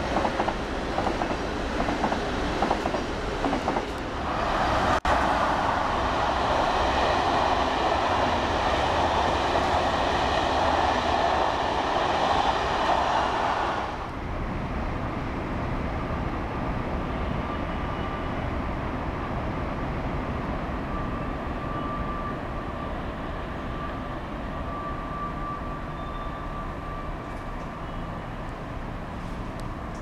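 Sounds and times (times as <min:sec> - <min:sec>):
distant train rumble: 0:00.0 - 0:30.0.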